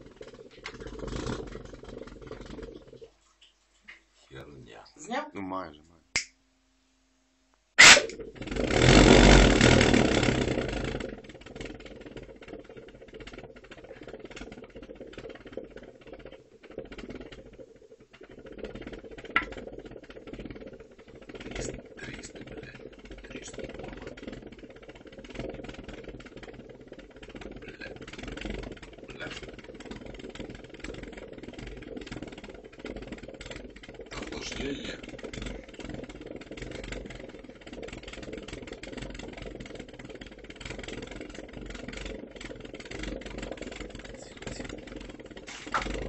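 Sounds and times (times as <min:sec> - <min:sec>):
uneven rumble: 0:00.0 - 0:06.0, 0:08.1 - 0:46.0
pulsejet engine running loudly: 0:07.8 - 0:46.0.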